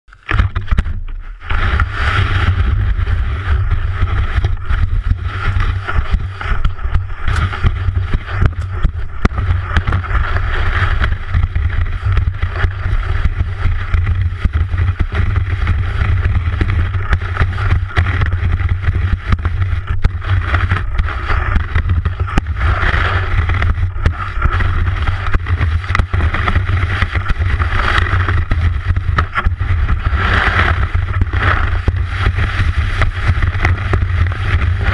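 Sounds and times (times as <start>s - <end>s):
skis scraping over snow: 0.1s - 34.9s
wind buffeting microphone: 0.3s - 34.9s.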